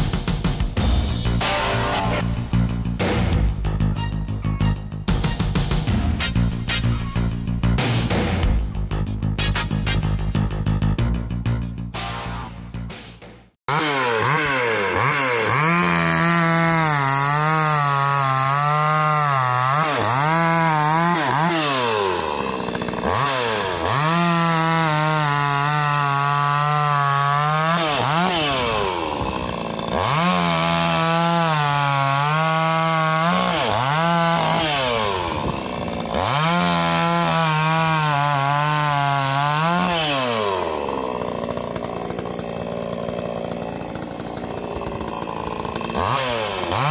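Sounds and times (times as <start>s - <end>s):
chainsaw cutting log: 0.0s - 4.1s, 5.3s - 10.9s, 13.7s - 46.9s.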